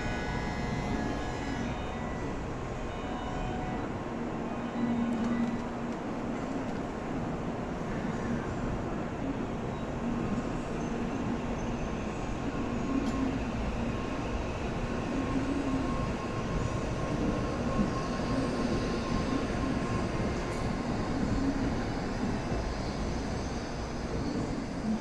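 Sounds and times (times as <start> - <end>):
train rail running noise: 0.0 - 25.0.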